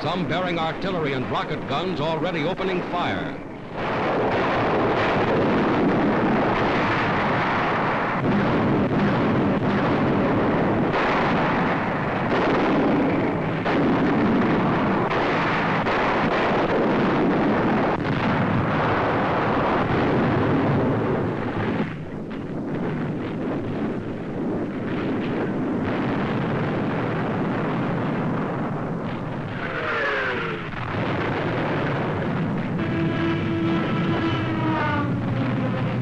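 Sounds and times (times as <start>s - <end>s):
explosions and artillery fire: 0.0s - 36.0s
heavy blasts: 0.0s - 36.0s.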